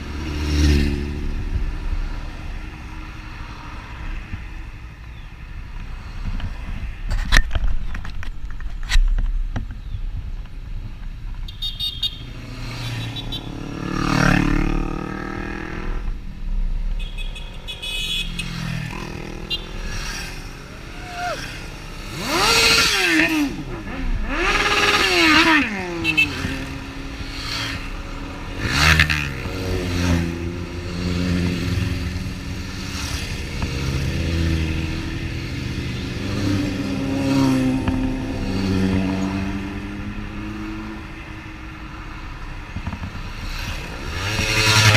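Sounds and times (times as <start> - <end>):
motorcycle engines revving: 0.0 - 8.0, 10.4 - 44.9.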